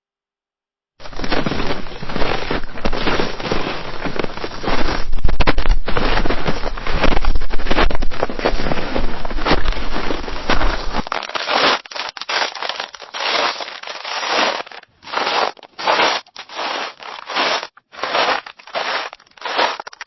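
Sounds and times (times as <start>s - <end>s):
footsteps crunching in snow: 1.0s - 20.0s.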